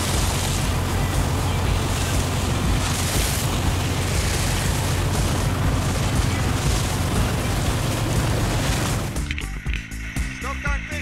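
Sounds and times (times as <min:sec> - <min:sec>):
wind and water rushing: 0:00.0 - 0:09.2
boat engine droning: 0:00.0 - 0:11.0.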